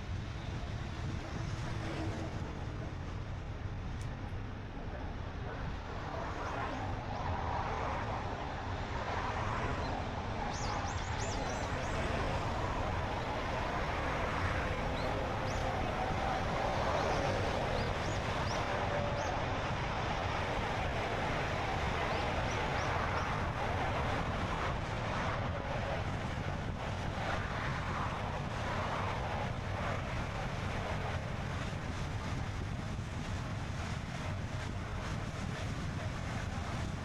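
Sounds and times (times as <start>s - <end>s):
tyre and wind noise: 5.4s - 37.0s.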